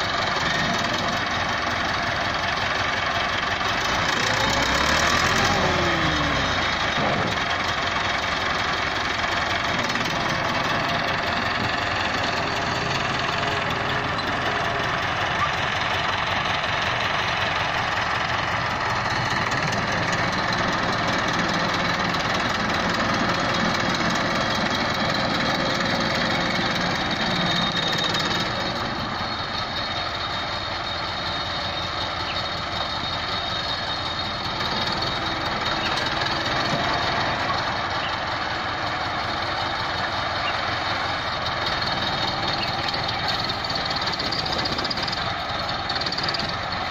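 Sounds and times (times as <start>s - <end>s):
tractor diesel engine working: 0.0s - 46.9s.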